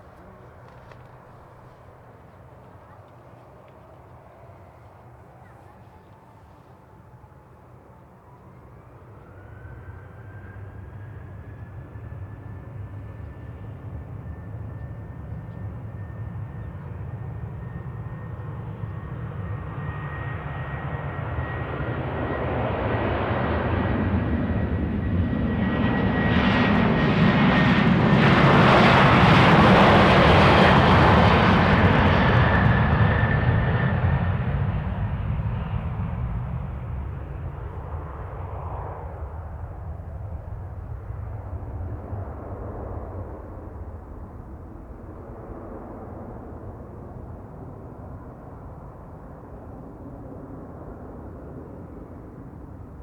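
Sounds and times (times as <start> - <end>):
jet engine roar: 0.0 - 53.0.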